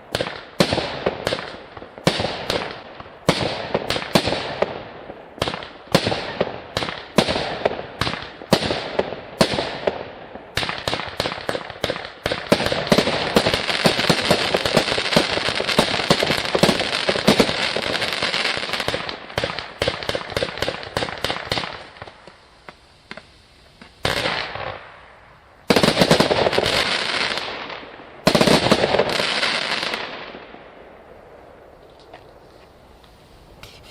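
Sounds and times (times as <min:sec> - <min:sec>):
loud firework bursts: 0:00.0 - 0:31.8
firework barrage with crackling: 0:00.0 - 0:33.9.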